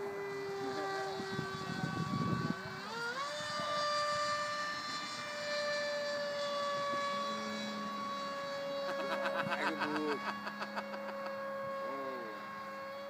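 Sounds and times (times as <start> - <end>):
model plane motor whine: 0.0 - 13.0.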